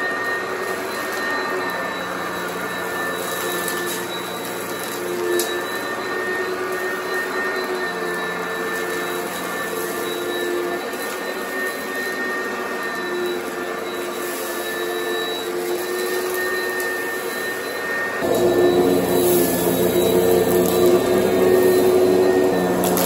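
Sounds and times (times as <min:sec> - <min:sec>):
upright vacuum motor whine: 0:00.0 - 0:23.0.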